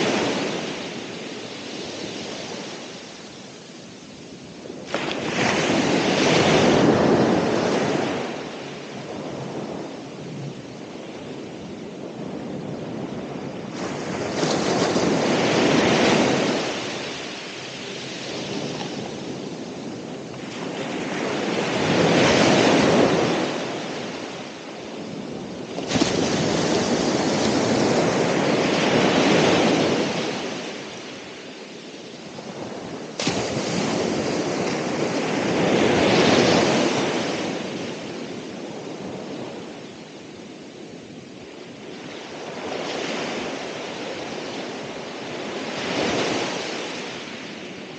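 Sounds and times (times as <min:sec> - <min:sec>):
ocean waves breaking on shore: 0:00.0 - 0:47.9.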